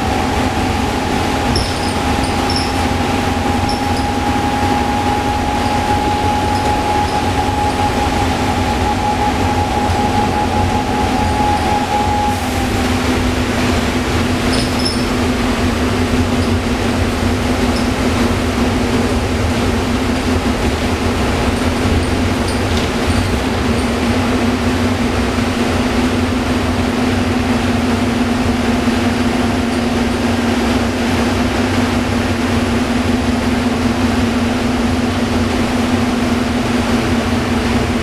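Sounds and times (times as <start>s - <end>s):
steady whine: 0.0s - 34.7s
bus diesel engine: 0.0s - 38.0s
road rumble: 0.0s - 38.0s.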